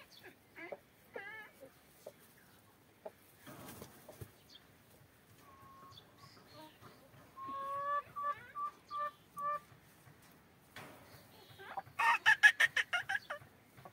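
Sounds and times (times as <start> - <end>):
chickens clucking: 0.0 - 13.9.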